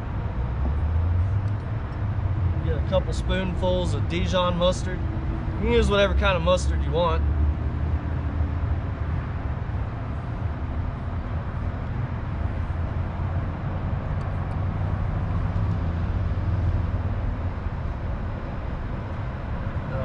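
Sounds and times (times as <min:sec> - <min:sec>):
low mechanical rumble and hum: 0:00.0 - 0:20.0.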